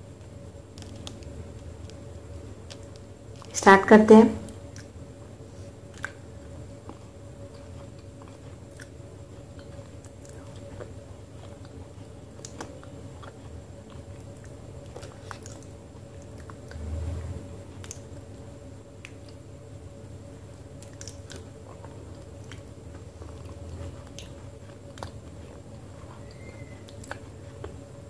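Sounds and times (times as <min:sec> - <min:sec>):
sticky mouth eating sounds: 0:00.0 - 0:03.6, 0:04.5 - 0:19.6, 0:20.5 - 0:28.0
faint steady hum: 0:00.0 - 0:28.0.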